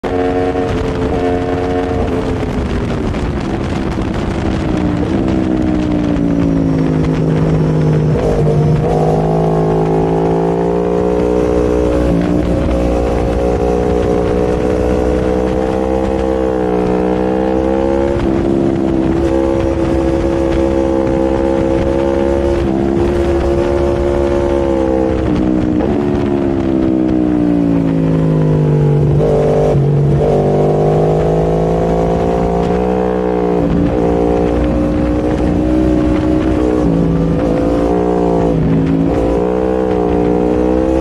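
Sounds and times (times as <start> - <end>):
motorcycle engine running hard: 0.0 - 41.0
wind noise: 0.0 - 41.0.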